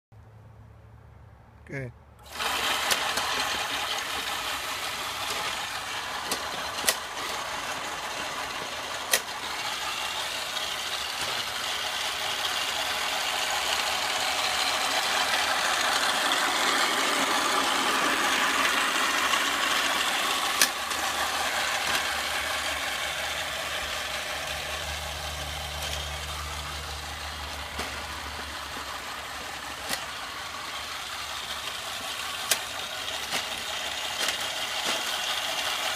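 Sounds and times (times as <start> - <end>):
electric lawn mower running: 2.2 - 35.9.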